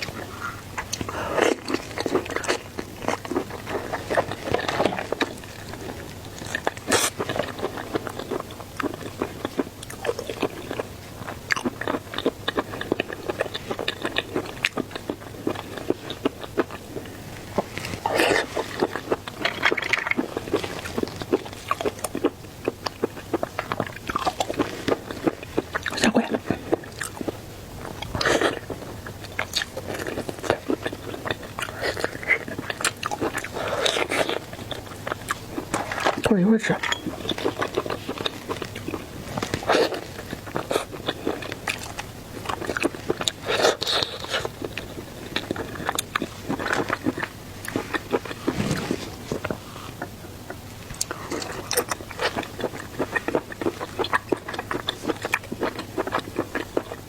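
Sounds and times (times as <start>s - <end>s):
wet chewing and biting: 0.0s - 57.0s.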